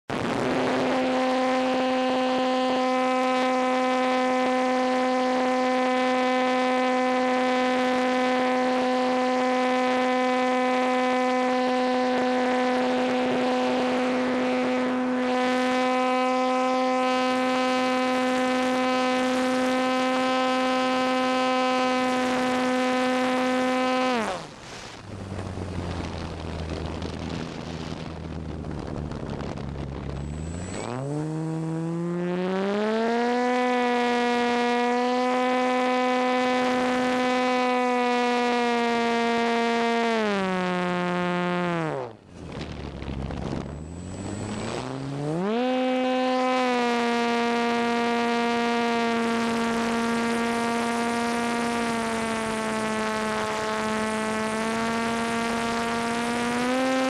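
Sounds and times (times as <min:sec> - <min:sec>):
model plane motor and propeller: 0:00.1 - 0:57.0.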